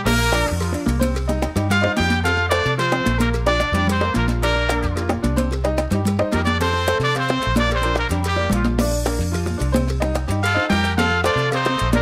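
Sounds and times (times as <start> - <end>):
salsa music with brass: 0.0 - 12.0.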